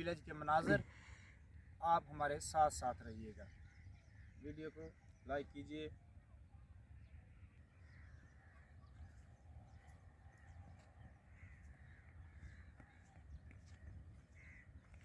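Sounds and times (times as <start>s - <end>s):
faint crows cawing: 0.3s - 5.7s, 6.9s - 15.0s.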